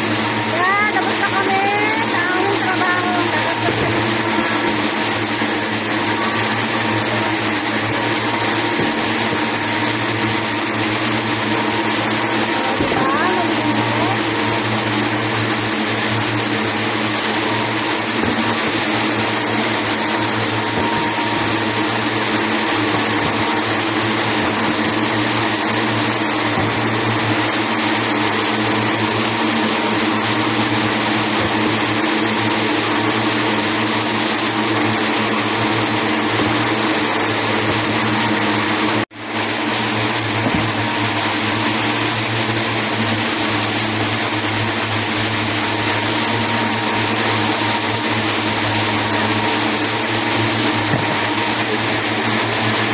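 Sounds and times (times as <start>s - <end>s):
spindle machines whirring: 0.0s - 52.9s.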